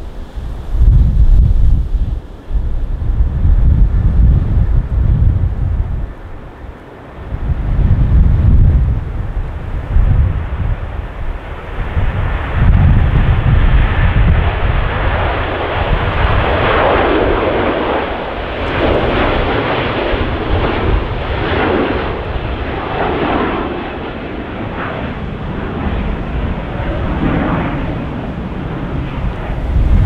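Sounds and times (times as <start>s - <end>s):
jet engines roaring: 0.0s - 30.0s
wind buffeting microphone: 0.0s - 30.0s.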